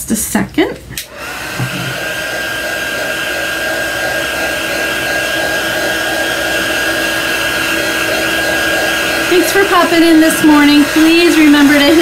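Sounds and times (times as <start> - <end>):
hot-air dryer blowing: 1.0 - 12.0.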